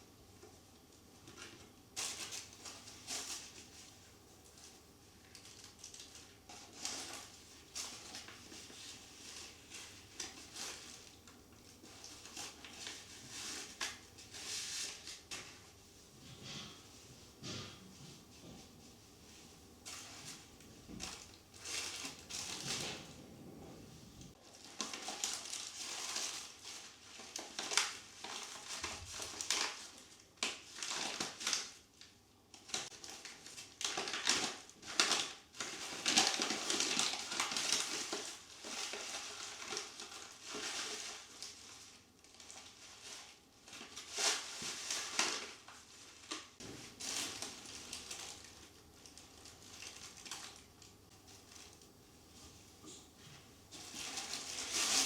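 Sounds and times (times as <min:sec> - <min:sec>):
rustling and crinkling: 0:00.4 - 0:55.0.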